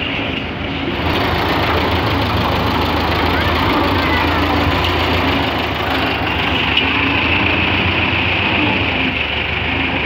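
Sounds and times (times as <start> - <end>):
tractor diesel engine running: 0.7 - 10.0.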